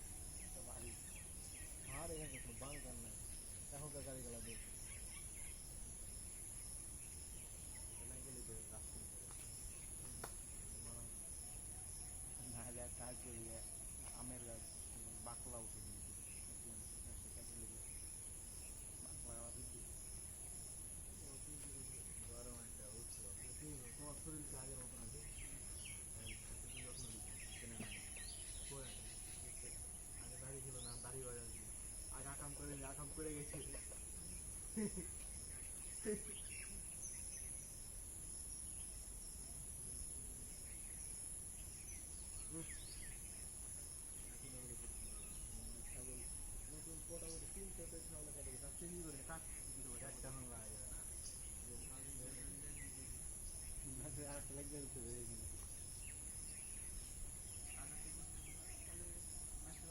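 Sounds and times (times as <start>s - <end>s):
insect trill: 0.0s - 59.9s
pulsing insect chirp: 0.0s - 59.9s.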